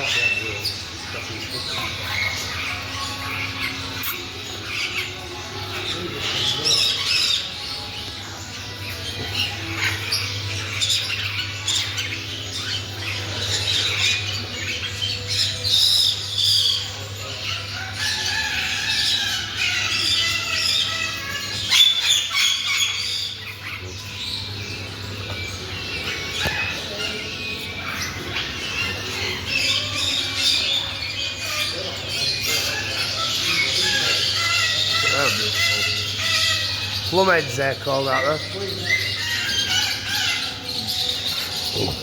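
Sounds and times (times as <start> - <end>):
caged birds squawking: 0.0 - 42.0.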